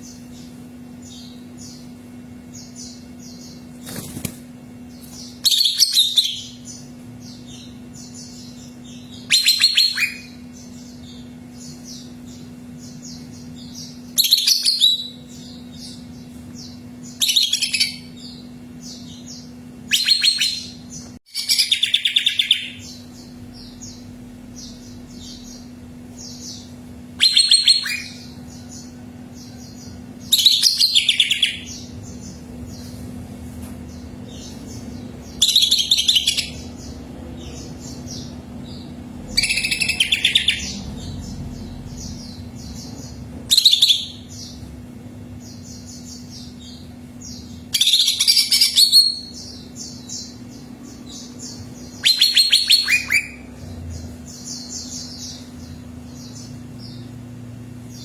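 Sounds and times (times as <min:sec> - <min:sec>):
low hum: 0:00.0 - 0:47.7
bird singing trilled phrases: 0:05.0 - 0:32.8, 0:33.9 - 0:44.7, 0:45.3 - 0:57.2.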